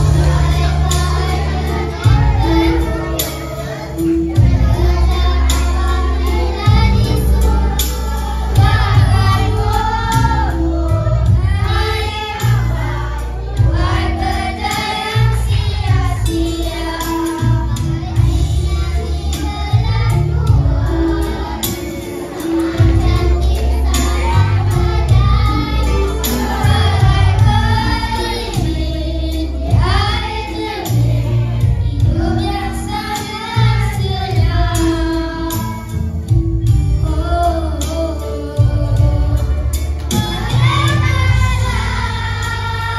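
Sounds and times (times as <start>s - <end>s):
backing music with bass line: 0.0s - 42.9s
children singing into microphones: 0.0s - 42.9s.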